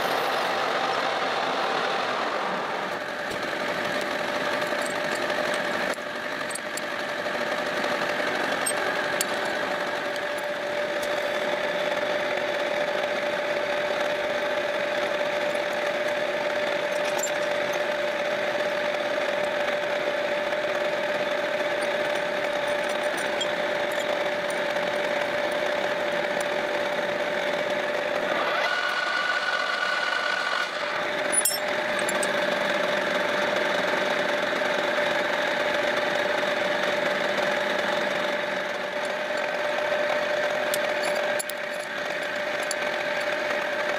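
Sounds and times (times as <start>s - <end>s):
metal lathe whining hum: 0.0s - 43.9s.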